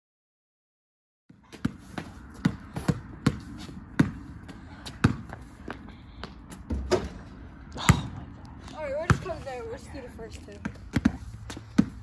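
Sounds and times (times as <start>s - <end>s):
basketball bouncing on asphalt: 1.3s - 12.0s.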